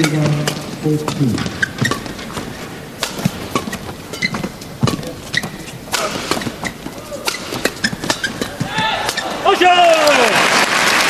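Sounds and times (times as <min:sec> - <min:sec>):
racket hitting shuttlecock: 0:00.0 - 0:09.5
shoes squeaking on court: 0:00.0 - 0:09.5.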